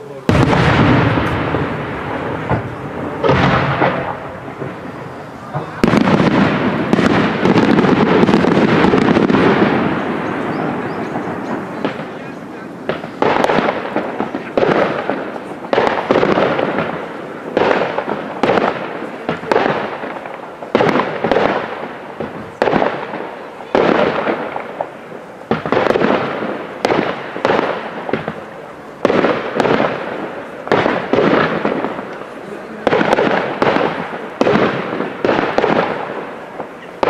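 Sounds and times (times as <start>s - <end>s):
firework shells bursting: 0.0s - 37.0s.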